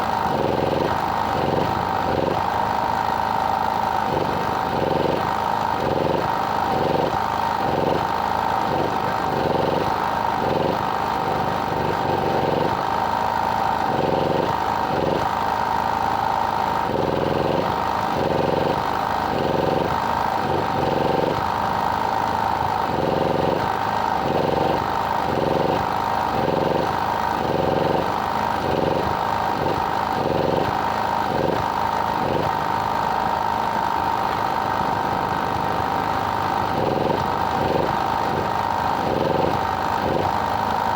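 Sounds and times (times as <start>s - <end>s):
engine running with low pulsing: 0.0s - 40.9s.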